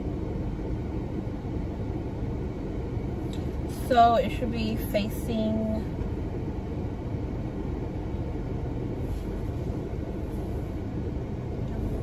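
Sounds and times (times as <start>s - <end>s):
car engine idling rumble: 0.0s - 12.0s.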